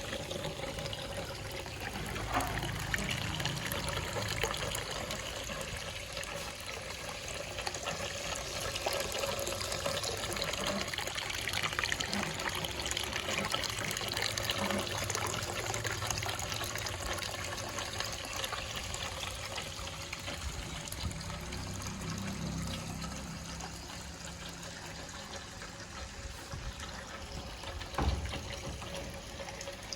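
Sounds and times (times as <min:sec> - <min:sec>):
water trickling down fountain: 0:00.0 - 0:29.9.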